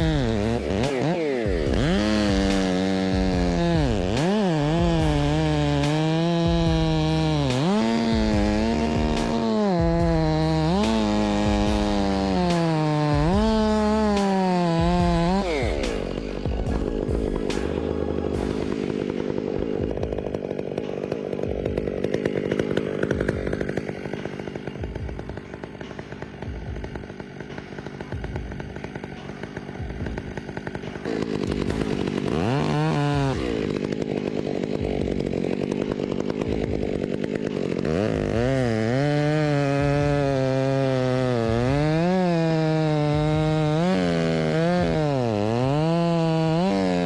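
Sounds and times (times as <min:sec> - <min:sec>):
chainsaw cutting wood: 0:00.0 - 0:47.0.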